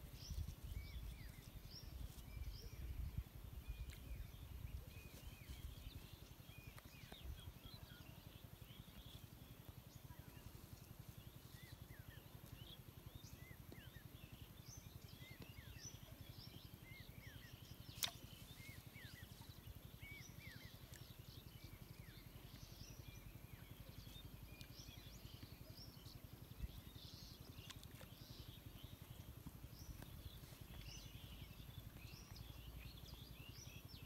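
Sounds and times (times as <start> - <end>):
low steady rumble: 0.0 - 34.0
small birds chirping: 0.0 - 34.0.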